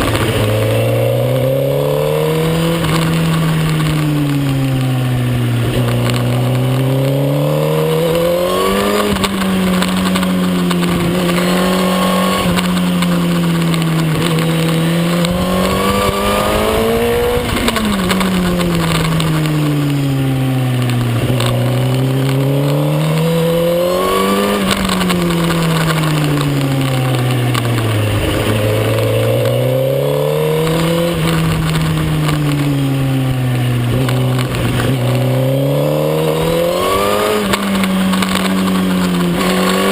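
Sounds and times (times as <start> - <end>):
motorcycle engine at racing speed: 0.0 - 39.9
wind and road noise: 0.0 - 39.9.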